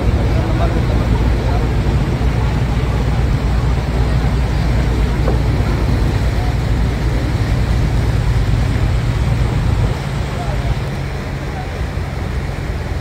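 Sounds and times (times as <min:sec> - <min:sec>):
boat engine drone: 0:00.0 - 0:13.0
water rushing: 0:00.0 - 0:13.0
wind noise: 0:00.0 - 0:13.0.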